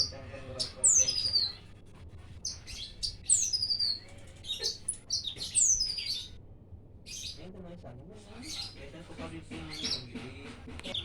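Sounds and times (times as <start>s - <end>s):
songbird chirping and whistling: 0.0s - 1.7s, 2.3s - 6.4s, 7.1s - 7.5s, 8.3s - 11.0s.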